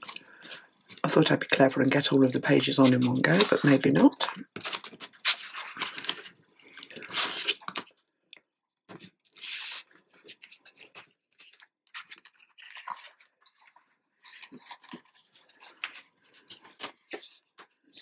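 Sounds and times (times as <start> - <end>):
card pages rustling and scraping: 2.4 - 7.9, 8.9 - 18.0.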